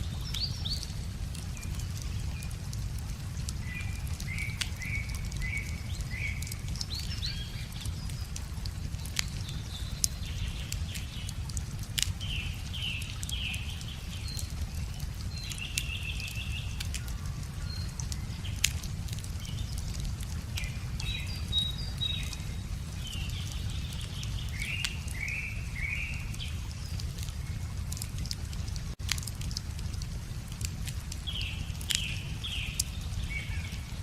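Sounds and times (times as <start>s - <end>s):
bonfire crackling and popping: 0.0s - 34.0s
small birds chirping: 0.0s - 34.0s.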